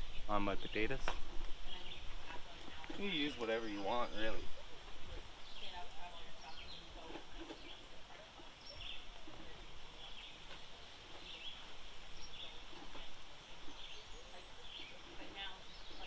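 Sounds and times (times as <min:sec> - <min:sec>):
bird chirping: 0:00.0 - 0:16.0
faint outdoor ambience: 0:00.0 - 0:16.0.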